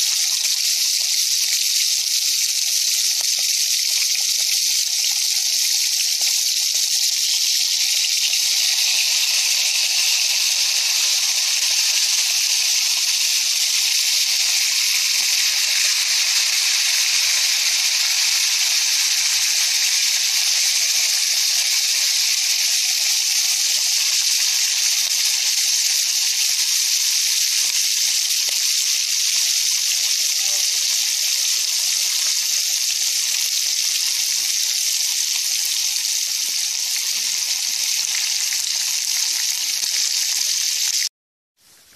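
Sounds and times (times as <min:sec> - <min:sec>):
meat sizzling in hot oil: 0:00.0 - 0:41.9.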